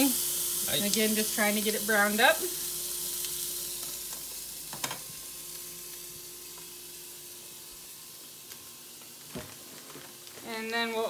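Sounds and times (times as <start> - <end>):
bone sizzling in fat: 0.0 - 11.0.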